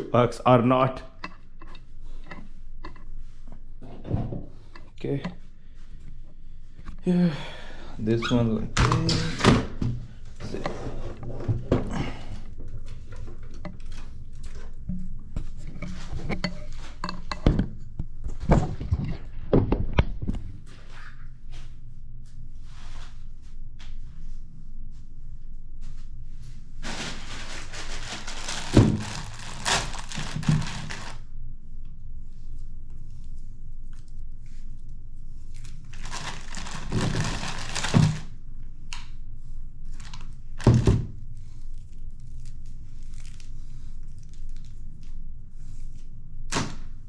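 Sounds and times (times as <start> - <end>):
faint low hum: 0.0 - 47.0
rustling and shuffling: 8.0 - 31.3, 32.0 - 46.4.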